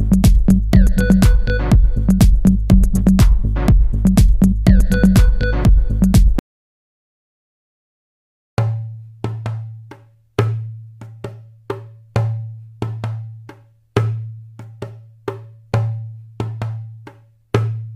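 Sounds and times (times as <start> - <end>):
sparse percussive beat with bass: 0.0 - 6.4, 8.6 - 17.9.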